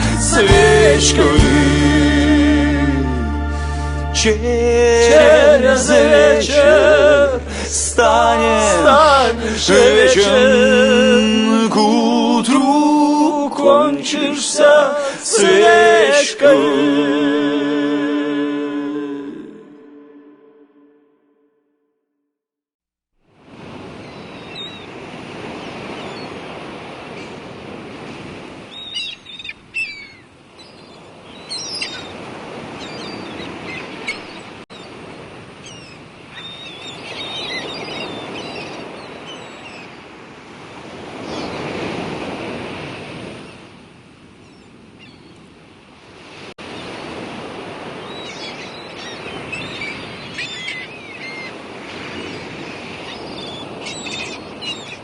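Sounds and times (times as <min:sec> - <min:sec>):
steady rushing of surf or wind: 0:00.0 - 0:20.3, 0:23.3 - 0:55.0.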